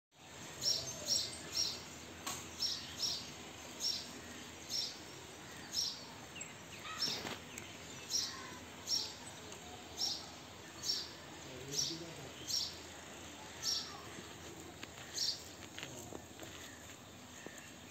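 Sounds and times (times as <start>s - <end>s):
outdoor background hiss: 0.2s - 17.9s
bird chirping: 0.3s - 17.9s.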